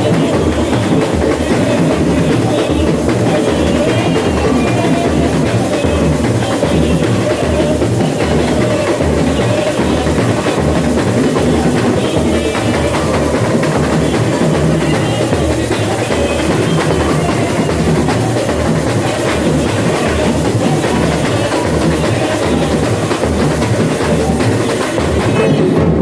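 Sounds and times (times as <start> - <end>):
deep surdo drums: 0.0 - 26.0
snare and percussion: 0.0 - 26.0.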